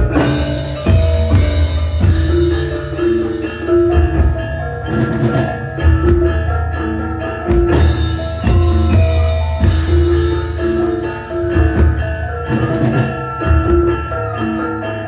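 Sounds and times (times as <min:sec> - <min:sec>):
metallophones ringing: 0:00.0 - 0:15.0.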